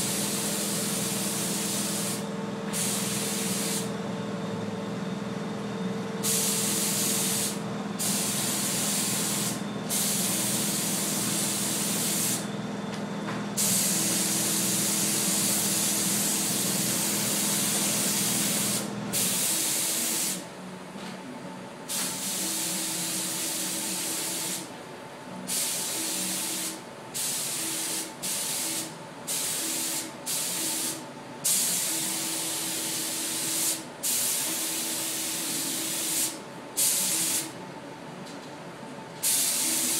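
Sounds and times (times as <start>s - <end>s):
paint spray gun hissing: 0.0s - 3.9s, 6.2s - 12.5s, 13.6s - 20.4s, 21.9s - 24.7s, 25.5s - 37.5s, 39.2s - 39.9s.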